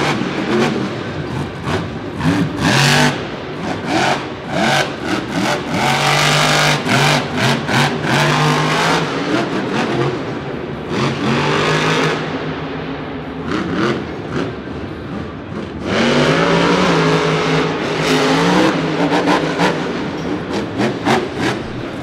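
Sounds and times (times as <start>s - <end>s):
truck engine revving hard: 0.0s - 12.6s, 13.4s - 22.0s.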